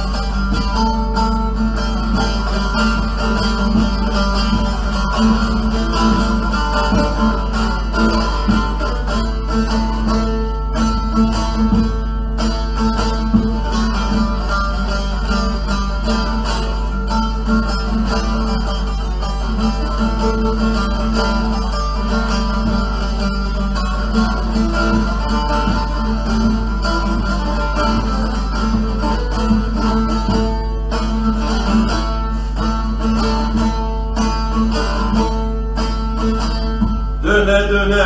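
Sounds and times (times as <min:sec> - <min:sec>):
long-necked lute plucked: 0:00.0 - 0:38.0.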